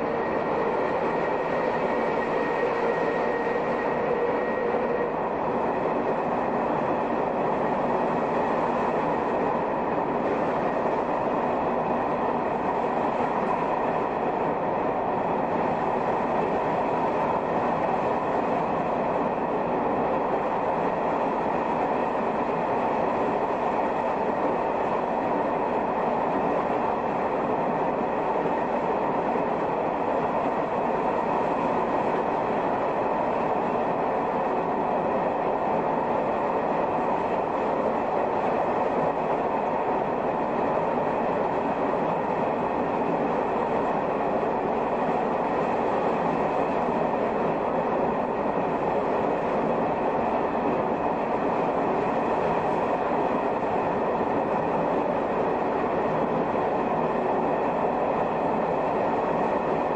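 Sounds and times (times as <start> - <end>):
faint steady whine: 0.0 - 59.9
train motors and wheels droning: 0.0 - 59.9.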